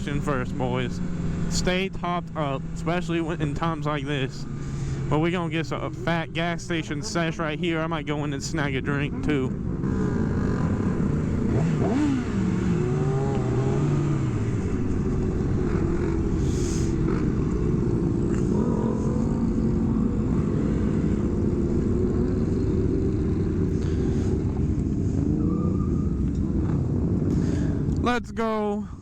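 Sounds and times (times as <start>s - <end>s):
motorcycle engine revving and droning: 0.0s - 28.0s.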